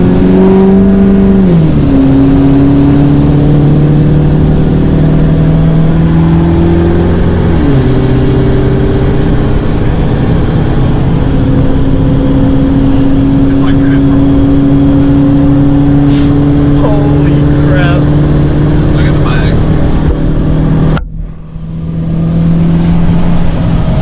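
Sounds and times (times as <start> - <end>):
diesel truck engine accelerating: 0.0 - 24.0.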